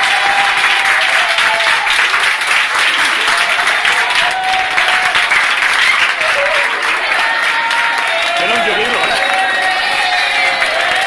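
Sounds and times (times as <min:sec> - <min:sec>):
crowd applauding: 0:00.0 - 0:11.0
voices over applause: 0:00.0 - 0:11.0.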